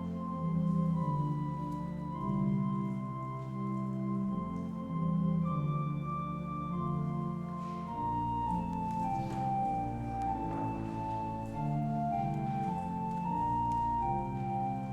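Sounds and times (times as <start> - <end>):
organ playing sustained chords: 0.0 - 14.9.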